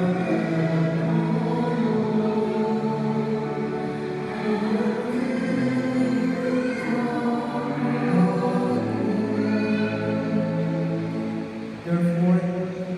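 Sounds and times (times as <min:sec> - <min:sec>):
choir singing sustained chords: 0:00.0 - 0:12.9.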